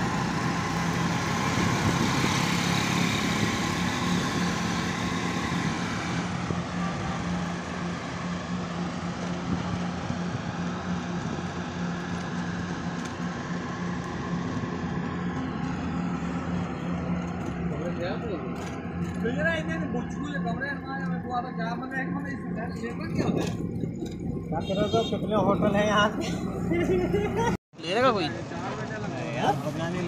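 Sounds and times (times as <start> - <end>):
car engine hum: 0.0 - 27.6
road and traffic noise: 0.0 - 30.0.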